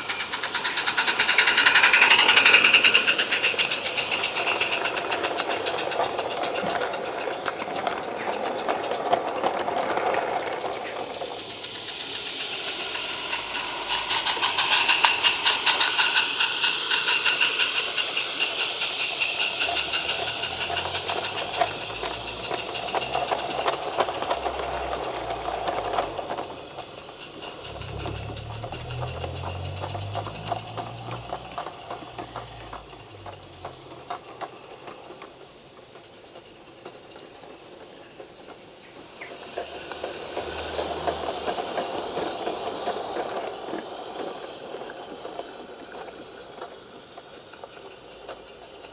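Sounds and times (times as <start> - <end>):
steam locomotive hissing exhaust beat: 0.0 - 48.9
wagons clicking over track: 0.0 - 48.9.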